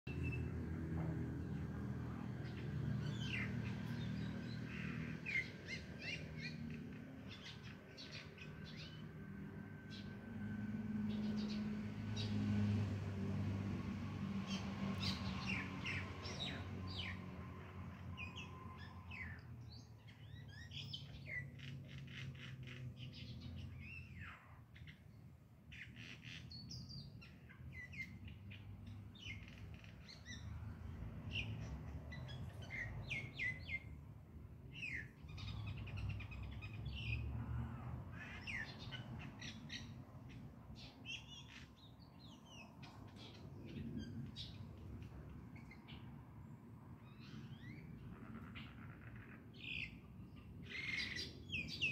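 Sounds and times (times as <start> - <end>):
birds chirping: 0.1 - 12.9, 14.3 - 51.9.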